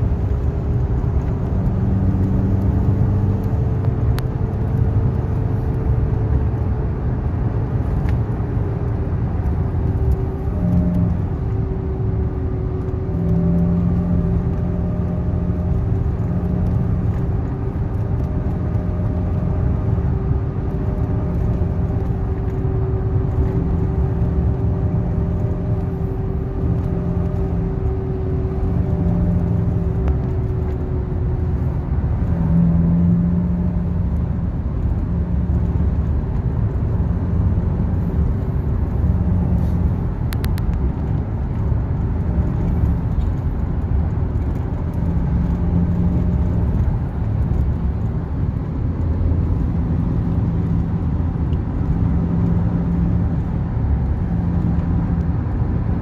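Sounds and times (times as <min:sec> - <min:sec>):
car engine droning: 0:00.0 - 0:56.0
tyre and road noise: 0:00.0 - 0:56.0.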